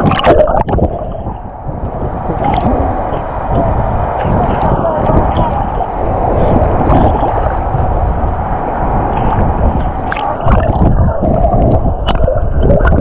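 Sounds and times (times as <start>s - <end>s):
sharp water splashes: 0.0s - 13.0s
waves sloshing and gurgling: 0.0s - 13.0s.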